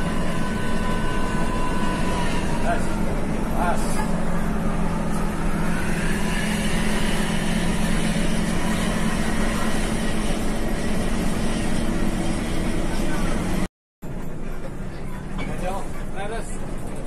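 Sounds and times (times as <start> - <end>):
bus engine drone: 0.0 - 17.0
road and tyre noise: 0.0 - 17.0.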